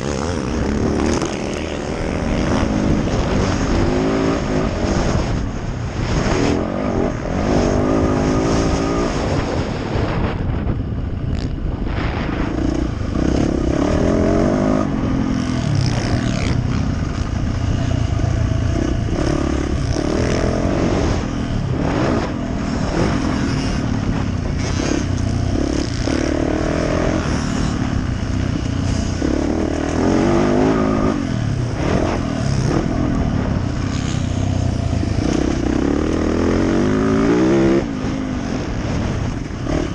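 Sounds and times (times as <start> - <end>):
dirt bike engine revving: 0.0 - 10.0, 11.4 - 39.9.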